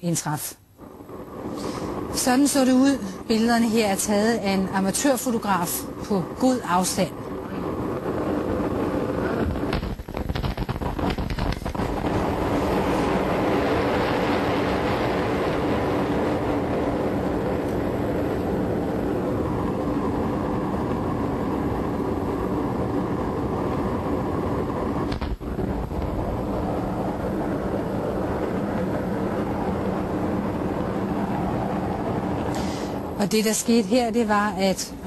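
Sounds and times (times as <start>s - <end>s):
distant explosion roar: 0.7s - 35.0s.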